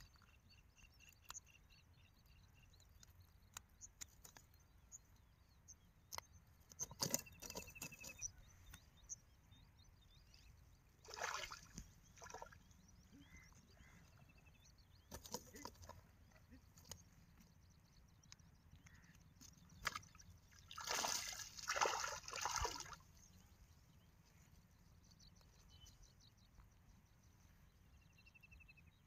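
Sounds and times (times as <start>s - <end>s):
faint outdoor background: 0.0s - 29.0s.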